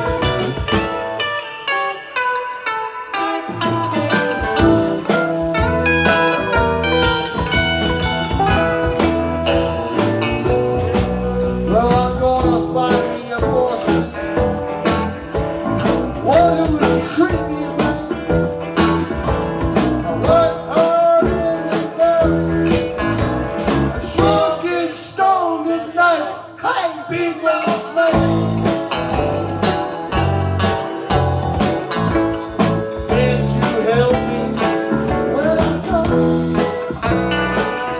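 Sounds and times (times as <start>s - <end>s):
bending lead guitar melody: 0.0s - 25.2s, 27.9s - 37.9s
band playing blues: 0.0s - 37.9s.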